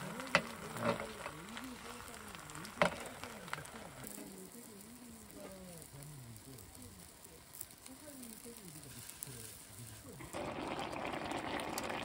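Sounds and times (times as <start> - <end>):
stew simmering and bubbling: 0.0 - 12.0.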